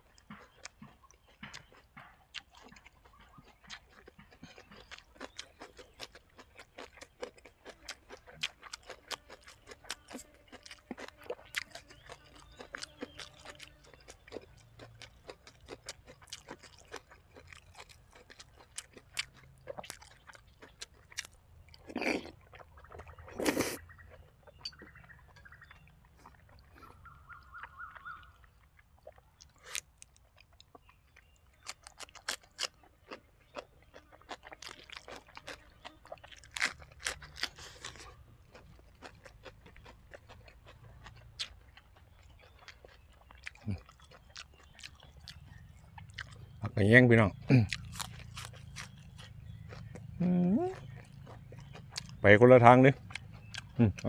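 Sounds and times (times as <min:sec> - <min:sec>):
crunching bites: 0:00.0 - 0:46.8, 0:47.4 - 0:54.0
wet chewing mouth clicks: 0:00.0 - 0:54.0.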